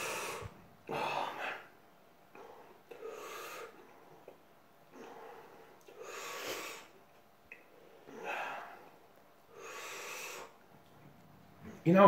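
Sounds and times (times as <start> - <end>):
man breathing heavily: 0.0 - 7.0, 7.6 - 10.6.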